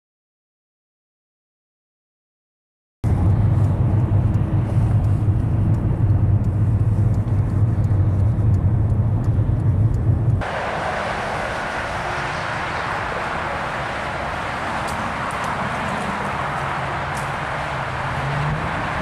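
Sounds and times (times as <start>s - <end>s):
car road and engine rumble: 3.0s - 19.0s.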